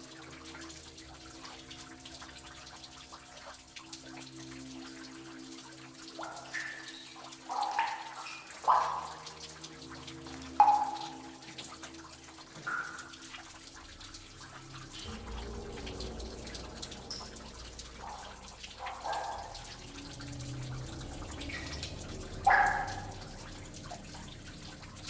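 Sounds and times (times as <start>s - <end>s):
water plopping and splashing: 0.0s - 25.0s.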